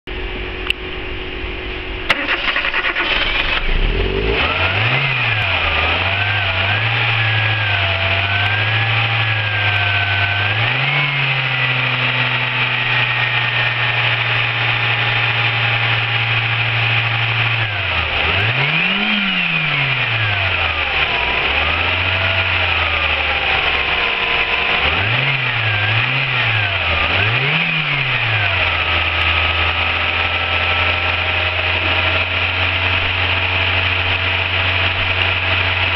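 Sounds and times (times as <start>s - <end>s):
car engine starting and revving: 2.0s - 35.9s.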